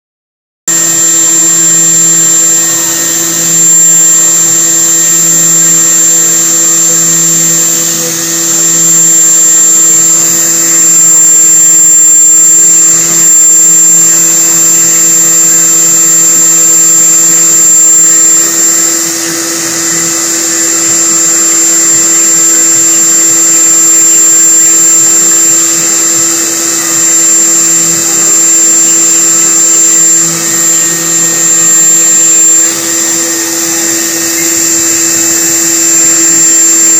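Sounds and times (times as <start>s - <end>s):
high-pitched spindle whine: 0.7s - 36.9s
milling machine cutting noise: 0.7s - 36.9s.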